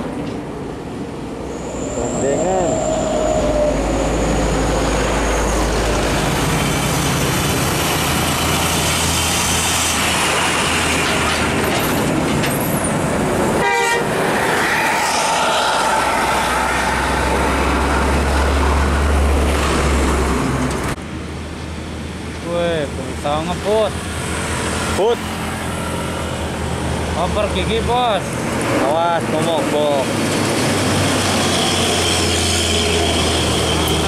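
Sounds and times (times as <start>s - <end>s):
heavy road noise: 0.0s - 34.0s
truck diesel engine passing: 0.9s - 34.0s.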